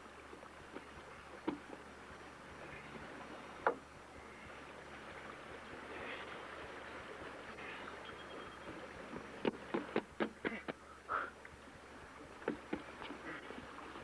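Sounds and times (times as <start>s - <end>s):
outdoor wind hiss: 0.0s - 14.0s.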